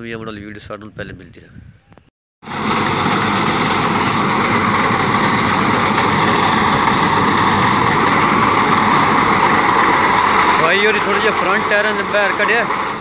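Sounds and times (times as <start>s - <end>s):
tractor diesel engine under load: 2.4s - 13.0s.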